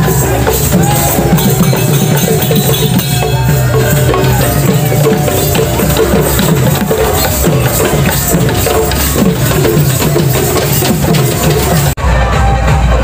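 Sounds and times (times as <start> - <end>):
procession music with drums: 0.0 - 13.0.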